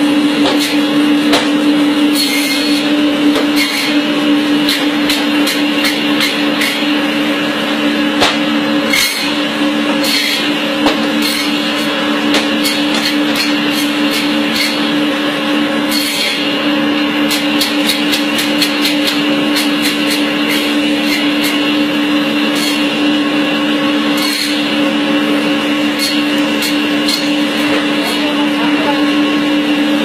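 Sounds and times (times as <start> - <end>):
meat band saw motor hum: 0.0 - 30.0.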